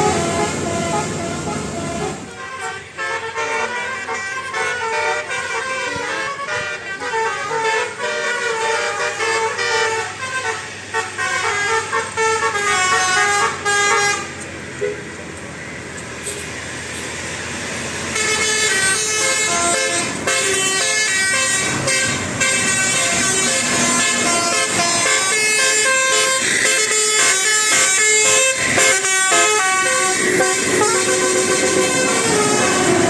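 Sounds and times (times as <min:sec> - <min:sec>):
multi-tone air horn tune: 0:00.0 - 0:15.1, 0:18.1 - 0:33.0.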